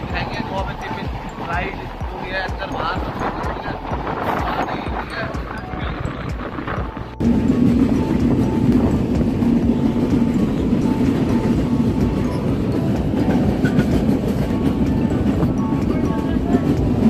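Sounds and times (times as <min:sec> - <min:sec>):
passenger train running on track: 0:00.0 - 0:17.0.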